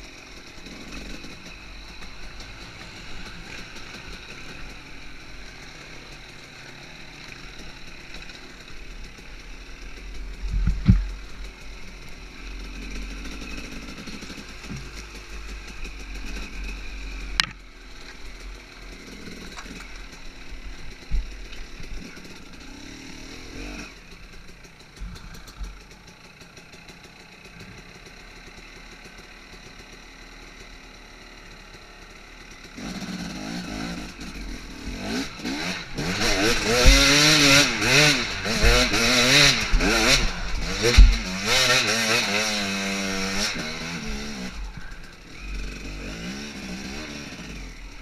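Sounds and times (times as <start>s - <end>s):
dirt bike engine revving: 0.0s - 29.9s, 31.5s - 48.0s.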